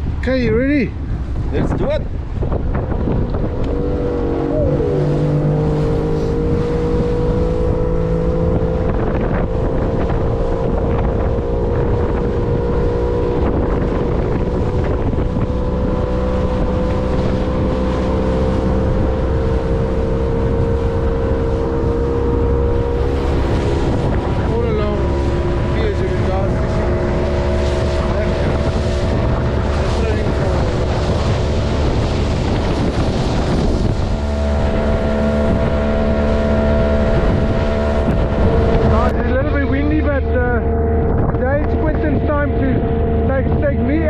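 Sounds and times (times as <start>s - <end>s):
outboard motor running: 0.0s - 44.0s
wind buffeting microphone: 0.0s - 44.0s.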